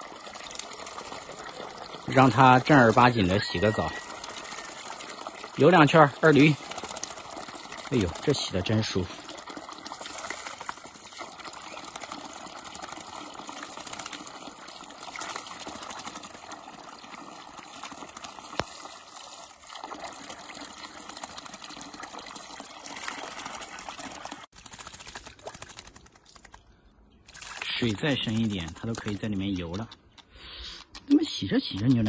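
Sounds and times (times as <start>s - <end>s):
tap water pouring into basin: 0.0s - 26.6s, 27.3s - 29.8s.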